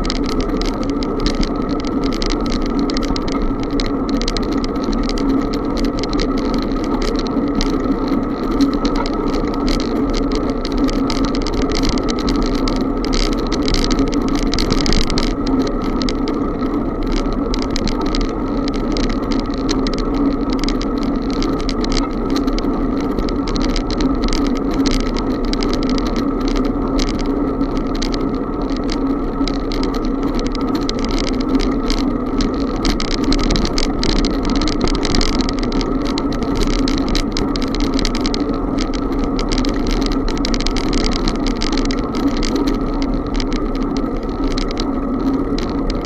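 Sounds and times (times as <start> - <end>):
rushing noise of bicycle ride: 0.0 - 46.0.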